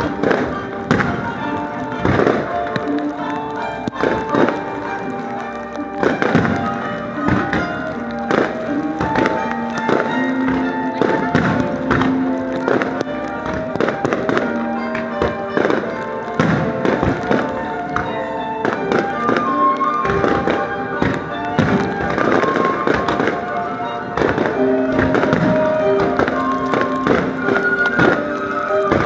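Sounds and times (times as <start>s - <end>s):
fireworks bangs: 0.0s - 29.0s
music playing: 0.0s - 29.0s.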